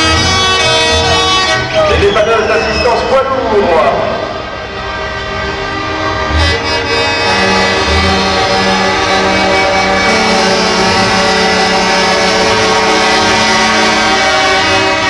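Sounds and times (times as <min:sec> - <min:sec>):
low horn blasts: 0:00.0 - 0:15.0
truck air horns chord: 0:00.0 - 0:15.0.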